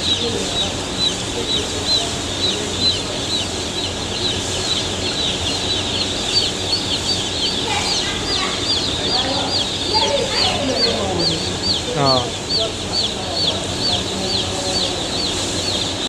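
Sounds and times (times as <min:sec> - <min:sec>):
chicks peeping: 0:00.0 - 0:16.0
steady low hum: 0:00.0 - 0:16.0.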